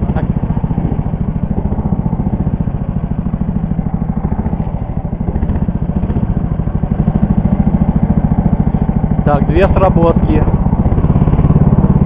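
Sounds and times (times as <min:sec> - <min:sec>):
engine idling putter: 0:00.0 - 0:12.0.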